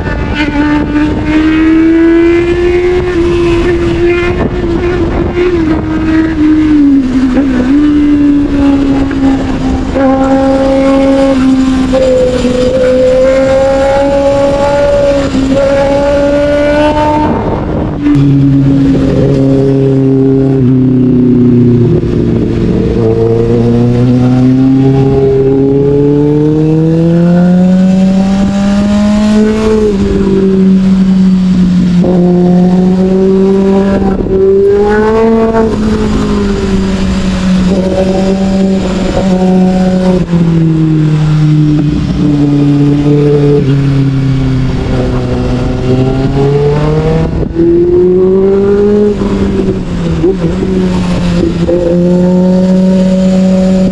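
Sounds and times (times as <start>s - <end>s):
motorcycle engine revving: 0.0s - 53.9s
wind on microphone: 0.0s - 53.9s.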